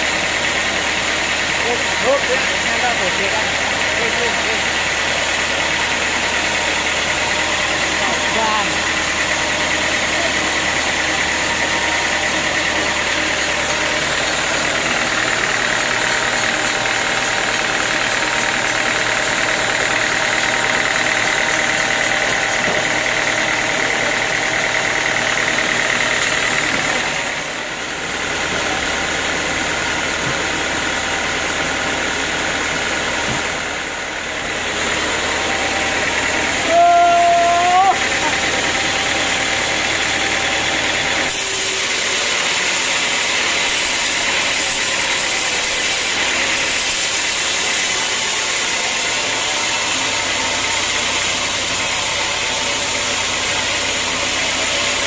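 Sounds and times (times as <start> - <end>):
band saw blade whine: 0.0 - 55.0
sawmill drive drone: 0.0 - 55.0.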